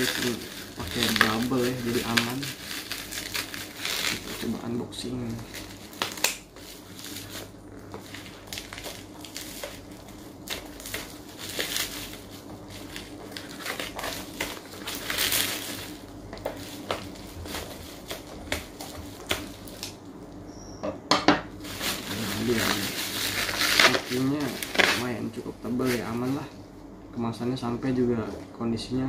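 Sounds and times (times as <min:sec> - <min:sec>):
bubble wrap crinkling: 0:00.0 - 0:20.4, 0:21.5 - 0:26.5.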